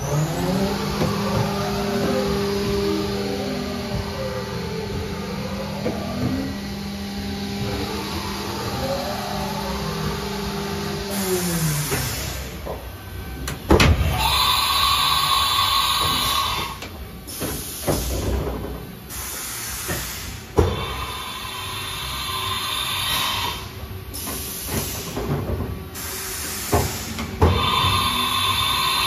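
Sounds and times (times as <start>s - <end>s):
machine whirring and hiss: 0.0s - 29.0s.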